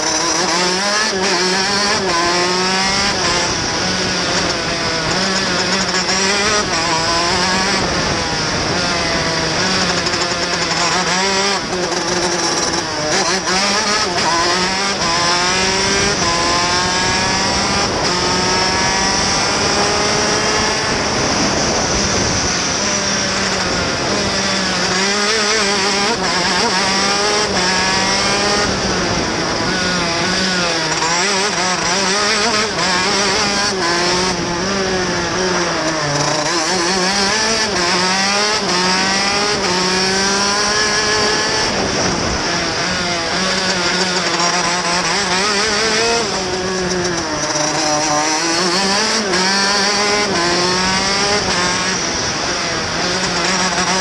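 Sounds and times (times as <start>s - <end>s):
kart engine revving through gears: 0.0s - 54.0s.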